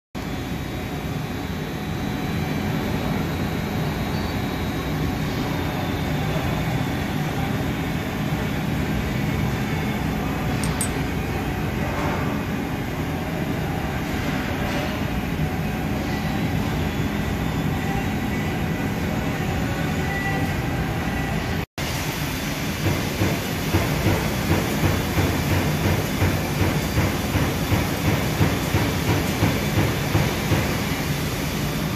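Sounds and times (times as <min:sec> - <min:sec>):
shop machinery humming: 0:00.2 - 0:31.9.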